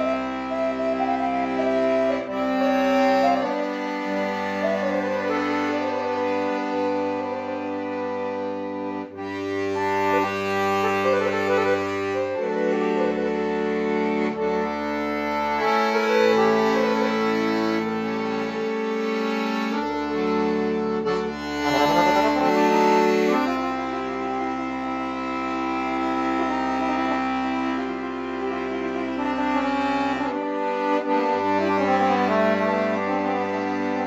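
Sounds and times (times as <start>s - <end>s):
piano accordion melody: 0.0s - 34.0s.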